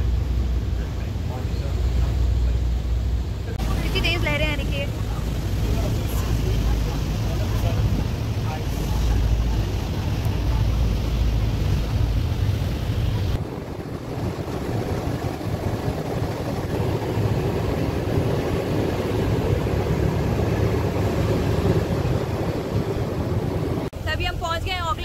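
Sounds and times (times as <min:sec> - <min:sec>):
boat engine running: 0:00.0 - 0:25.0
wind buffeting microphone: 0:00.0 - 0:25.0
wake rushing and spraying: 0:01.4 - 0:23.9.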